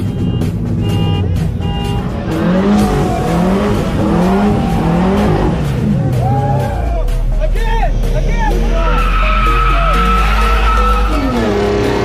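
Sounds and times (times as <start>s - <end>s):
background music with steady notes: 0.0s - 12.0s
car engine revving: 0.0s - 12.0s.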